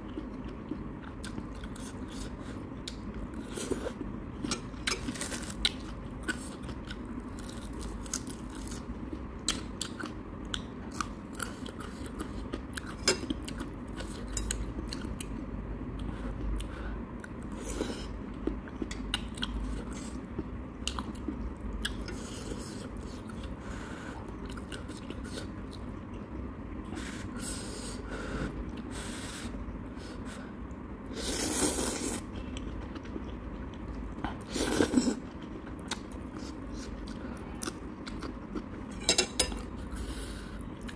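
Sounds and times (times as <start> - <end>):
chewing and crunching: 0.0 - 15.4, 16.0 - 23.6, 24.3 - 26.3, 31.4 - 40.0.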